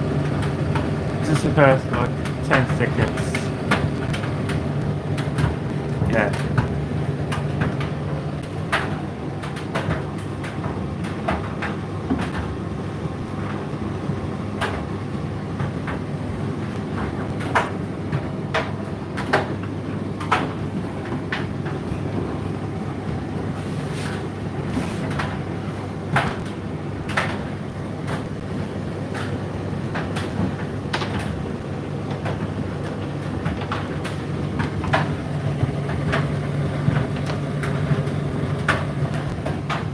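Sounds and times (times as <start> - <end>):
tumble dryer motor and drum hum: 0.0 - 39.9.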